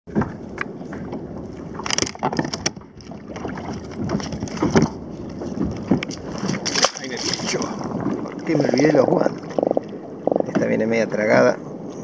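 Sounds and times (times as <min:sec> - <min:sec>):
wind on microphone: 0:00.1 - 0:12.0.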